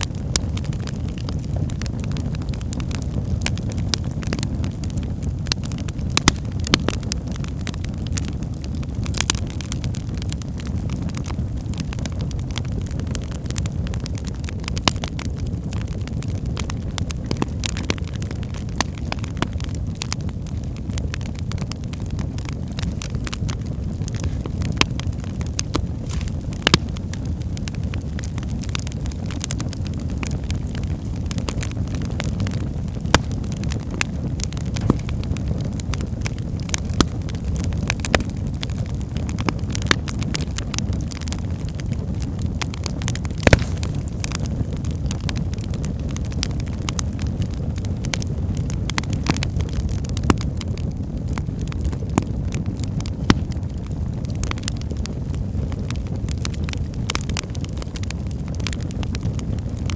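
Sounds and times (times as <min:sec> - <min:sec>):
logs crackling and popping: 0:00.0 - 0:59.9
wood fire roaring: 0:00.0 - 0:59.9.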